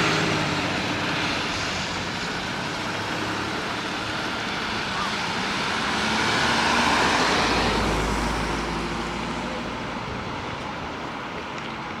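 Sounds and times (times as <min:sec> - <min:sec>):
fire truck driving past: 0:00.0 - 0:12.0.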